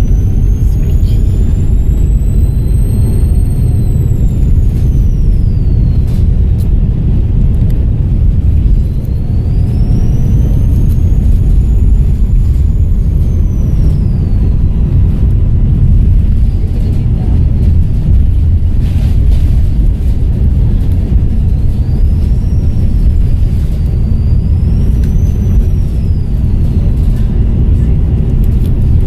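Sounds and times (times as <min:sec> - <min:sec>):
bus diesel engine rumbling: 0:00.0 - 0:29.0
turbocharger whistling: 0:00.0 - 0:29.0.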